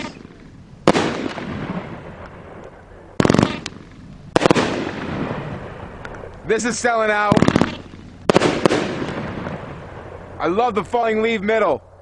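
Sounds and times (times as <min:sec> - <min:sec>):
firework bangs: 0:00.0 - 0:10.4.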